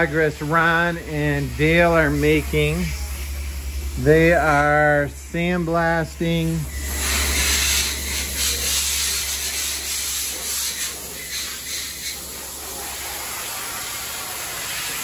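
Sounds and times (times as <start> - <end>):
sandblaster hissing: 0.0 - 15.0.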